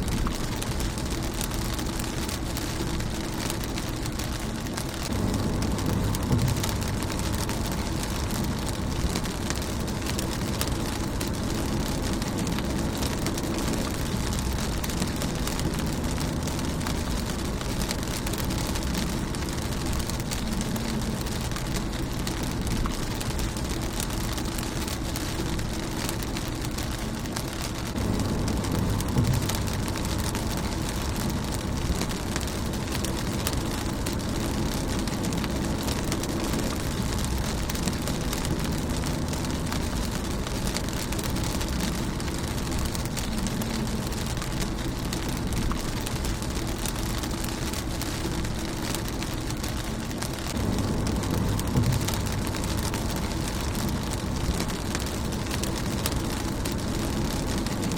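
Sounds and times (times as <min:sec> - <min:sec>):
low rumble: 0:00.0 - 0:57.9
rain pattering on car windshield: 0:00.0 - 0:57.9.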